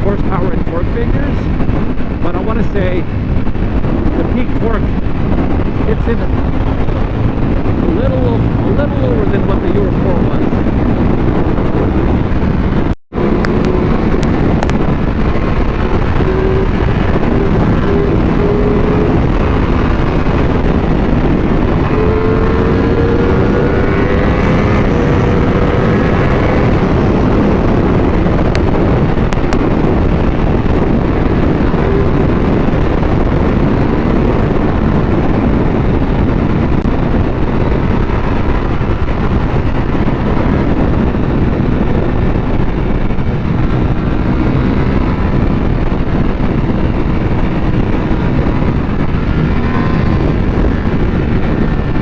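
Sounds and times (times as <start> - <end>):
wind buffeting microphone: 0.0 - 52.0
motorcycle engine: 3.0 - 52.0.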